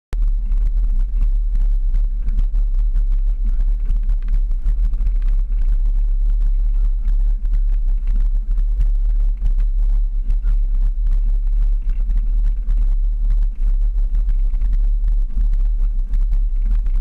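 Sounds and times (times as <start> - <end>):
vehicle engine rumble: 0.2 - 17.0.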